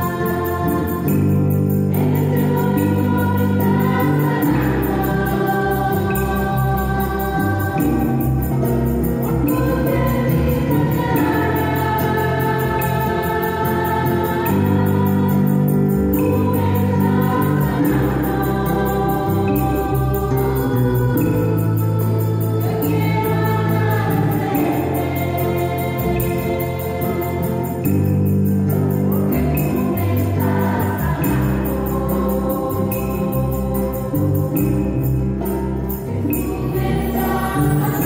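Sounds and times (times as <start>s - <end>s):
acoustic and electric guitars: 0.0s - 38.0s
choir singing a hymn: 0.0s - 38.0s.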